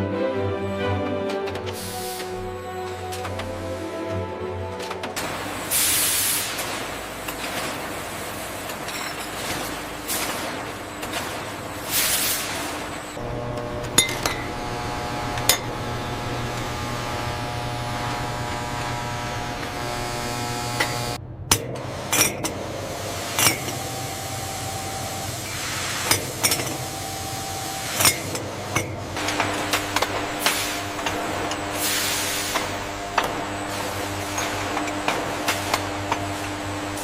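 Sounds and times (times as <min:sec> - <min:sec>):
factory machinery humming: 0:00.0 - 0:37.0.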